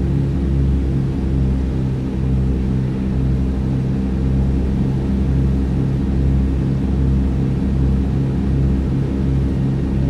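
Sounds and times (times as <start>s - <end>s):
propeller engines droning: 0.0s - 10.0s.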